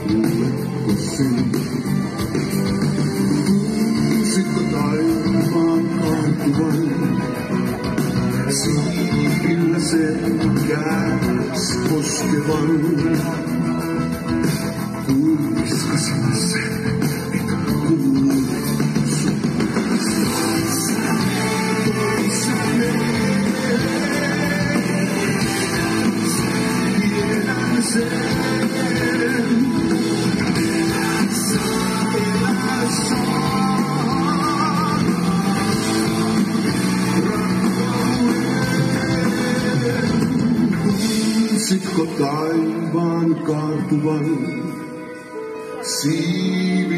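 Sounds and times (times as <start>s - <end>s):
bass guitar: 0.0s - 46.9s
drums: 0.0s - 46.9s
electric guitars: 0.0s - 46.9s.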